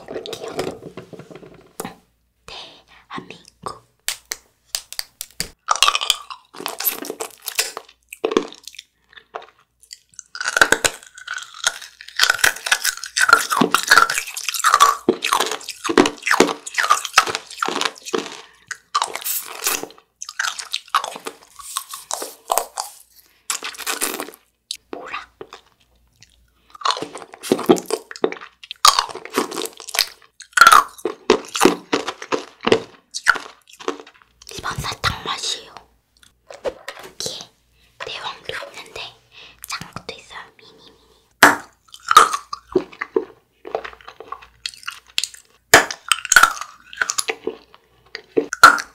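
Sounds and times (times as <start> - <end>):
crunchy candy being chewed: 3.7 - 36.4, 41.4 - 48.9.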